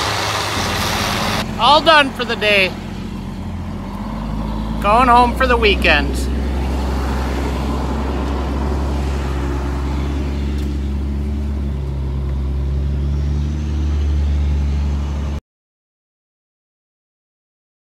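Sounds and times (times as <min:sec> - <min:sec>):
diesel engine humming: 0:00.0 - 0:15.4.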